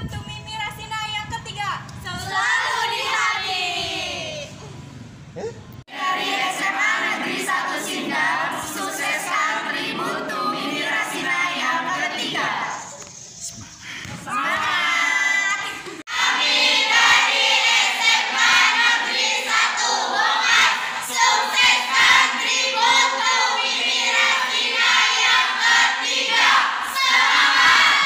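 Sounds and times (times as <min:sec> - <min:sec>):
teenagers chanting and singing: 0:02.0 - 0:04.6, 0:05.9 - 0:28.0.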